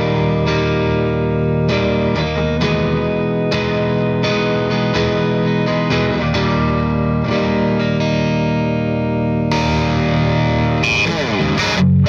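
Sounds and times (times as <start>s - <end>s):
overdriven electric guitar chords: 0.0s - 12.0s.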